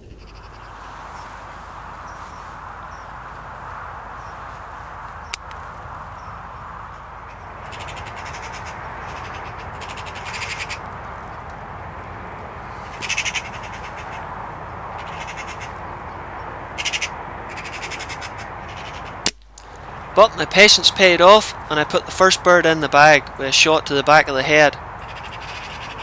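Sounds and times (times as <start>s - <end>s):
magpies rattling chatter: 0.0s - 26.0s.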